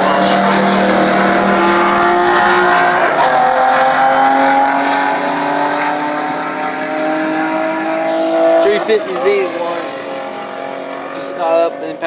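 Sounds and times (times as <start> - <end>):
drag racing car engines at full throttle: 0.0 - 12.0.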